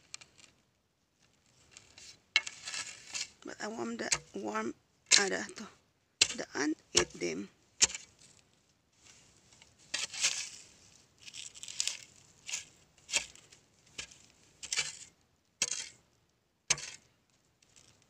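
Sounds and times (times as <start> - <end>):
garden tool scraping dry soil: 1.4 - 16.0, 16.7 - 18.0.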